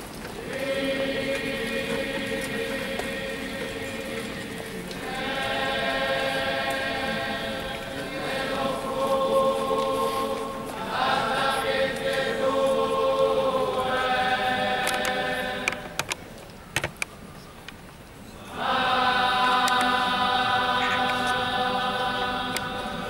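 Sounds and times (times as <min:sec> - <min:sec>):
choir singing slow chant: 0:00.2 - 0:16.3, 0:18.4 - 0:23.0.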